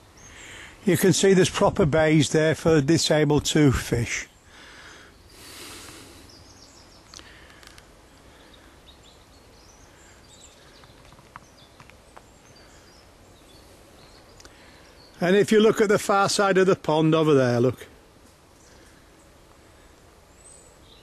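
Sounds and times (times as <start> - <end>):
distant birdsong: 0.0 - 21.0.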